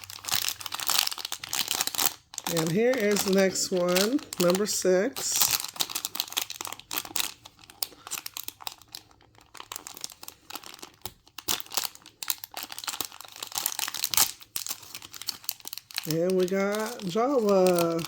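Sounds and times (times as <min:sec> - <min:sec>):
wrapper crinkling: 0:00.0 - 0:18.0.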